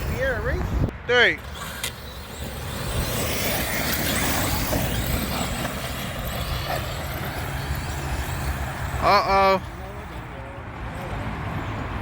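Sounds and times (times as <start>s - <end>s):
rc race cars rushing: 0.0s - 12.0s.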